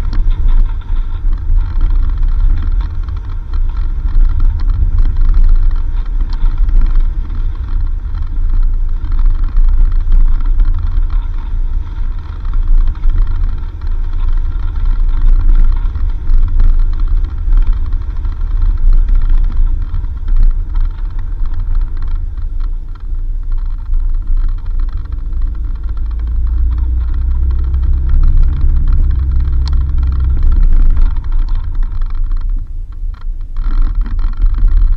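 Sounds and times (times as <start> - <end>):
vehicle driving on dirt road: 0.0 - 34.9.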